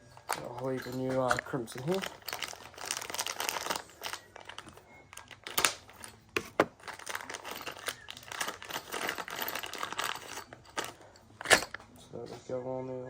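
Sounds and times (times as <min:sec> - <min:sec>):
plastic packaging crinkling: 0:00.1 - 0:11.8.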